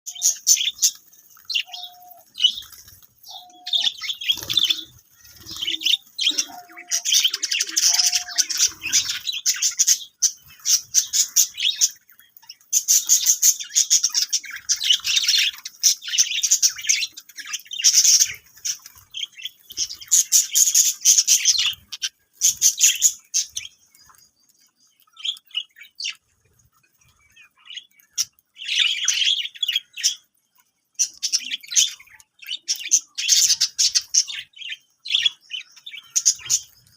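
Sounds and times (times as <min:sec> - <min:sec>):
budgerigars chattering and chirping: 0:00.1 - 0:26.3, 0:27.0 - 0:30.3, 0:31.0 - 0:36.9.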